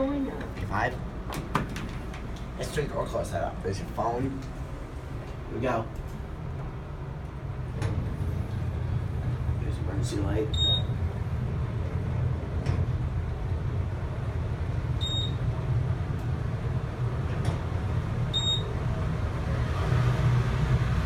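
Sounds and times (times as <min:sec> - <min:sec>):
elevator low rumble: 0:00.0 - 0:21.0.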